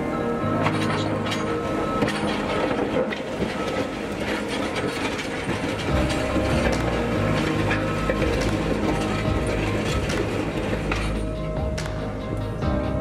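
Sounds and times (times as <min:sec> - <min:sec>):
diesel engine running: 0:00.0 - 0:13.0
clicks and clanks of rock: 0:00.6 - 0:12.2.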